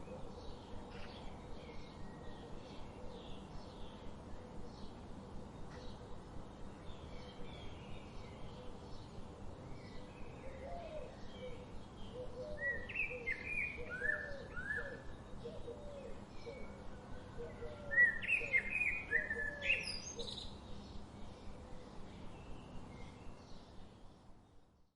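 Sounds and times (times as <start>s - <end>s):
birds chirping: 0.0s - 24.4s.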